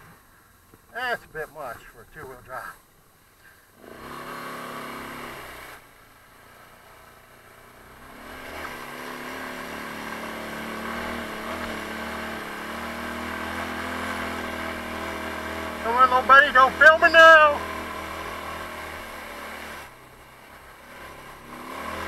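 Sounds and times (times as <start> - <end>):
atv engine revving: 3.4 - 22.0.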